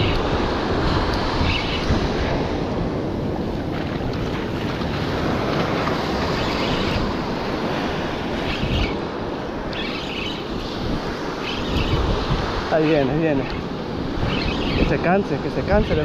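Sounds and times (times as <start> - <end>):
small waves washing on beach: 0.0 - 16.0
wind rumble on microphone: 0.0 - 16.0.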